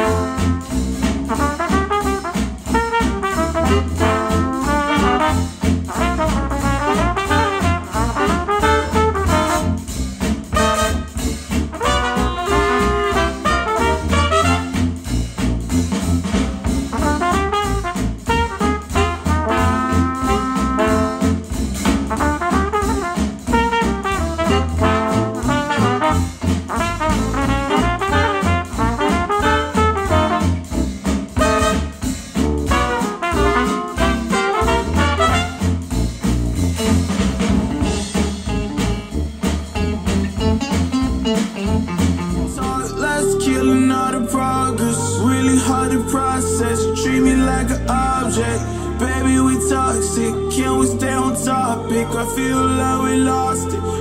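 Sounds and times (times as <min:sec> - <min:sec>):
swing jazz band: 0:00.0 - 0:54.0.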